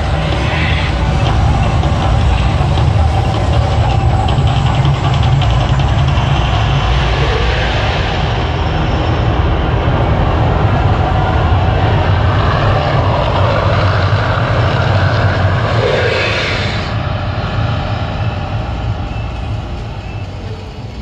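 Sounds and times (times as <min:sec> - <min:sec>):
deep rumbling roar: 0:00.0 - 0:21.0
gas fire jets rushing: 0:00.0 - 0:21.0.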